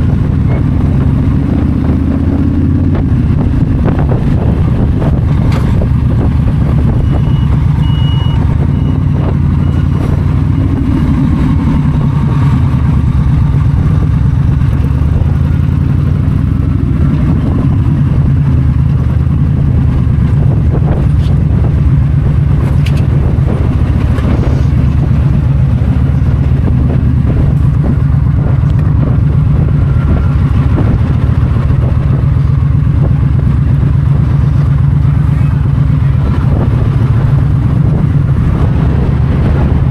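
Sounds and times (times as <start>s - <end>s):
motorcycle engine cruising: 0.0s - 39.9s
wind noise from riding: 0.0s - 39.9s.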